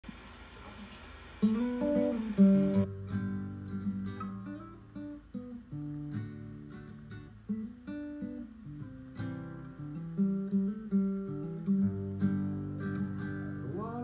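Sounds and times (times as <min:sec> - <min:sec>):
classical guitar chords: 0:01.4 - 0:14.0.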